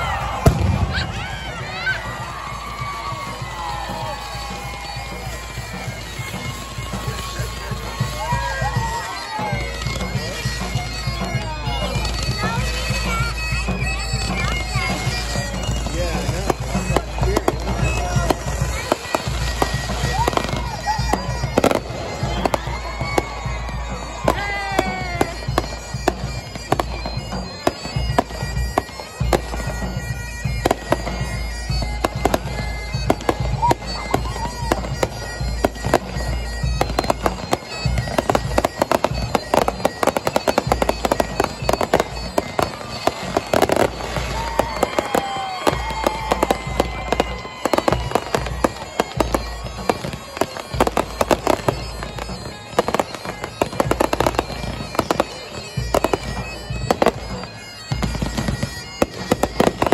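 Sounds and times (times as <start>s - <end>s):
fireworks bangs and crackles: 0.0s - 59.9s
whistling firework shells: 0.0s - 59.9s.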